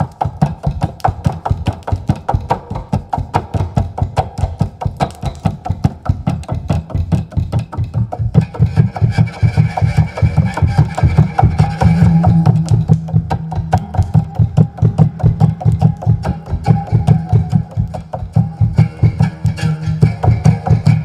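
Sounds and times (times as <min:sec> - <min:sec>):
one-string instrument strokes: 0:00.0 - 0:21.0.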